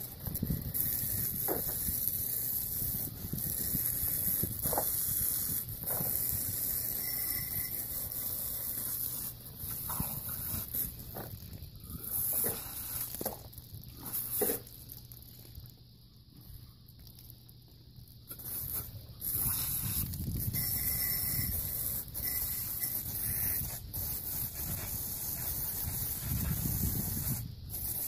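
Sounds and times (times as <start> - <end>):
hose nozzle spraying water: 0.0 - 13.4, 14.0 - 15.0, 18.3 - 28.0.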